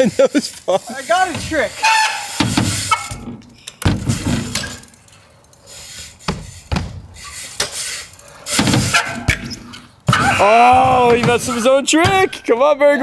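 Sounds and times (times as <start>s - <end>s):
bike thudding on ramps: 1.1s - 5.0s, 5.7s - 12.5s.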